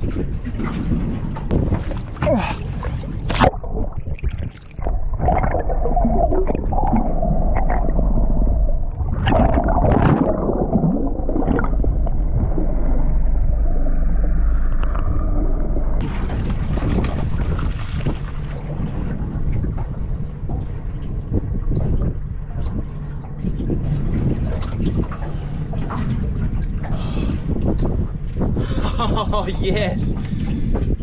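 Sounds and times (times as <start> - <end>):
steady low hum: 0.0 - 31.0
underwater gurgling and sloshing: 0.0 - 31.0
water splashing: 0.8 - 13.4, 14.2 - 27.4.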